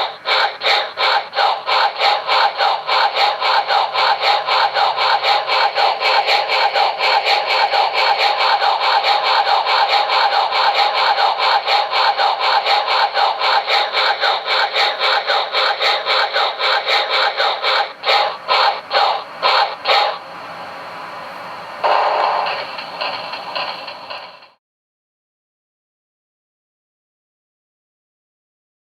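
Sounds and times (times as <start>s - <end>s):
steam hiss: 0.0s - 24.6s
steam locomotive chuffing: 0.0s - 24.6s.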